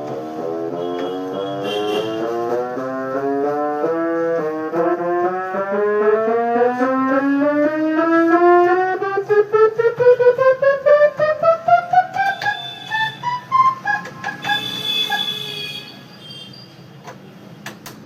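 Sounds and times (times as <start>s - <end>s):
electronic keyboard brass notes: 0.0s - 16.0s.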